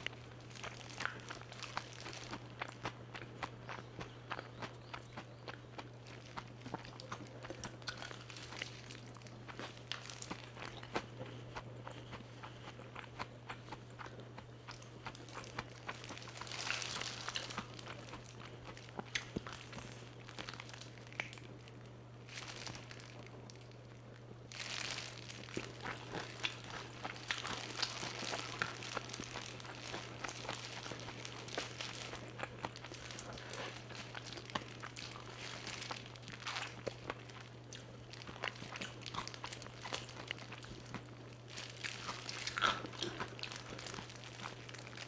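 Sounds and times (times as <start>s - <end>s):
crunchy bites and chewing: 0.0s - 45.0s
steady low hum: 0.0s - 45.0s.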